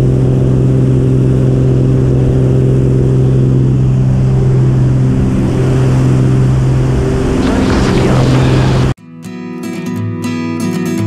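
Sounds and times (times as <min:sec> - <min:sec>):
propeller plane engine drone: 0:00.0 - 0:09.0.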